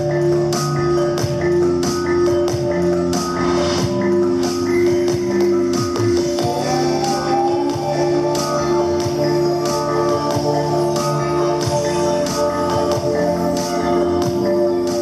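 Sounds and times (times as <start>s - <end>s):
percussion beat: 0.0s - 15.0s.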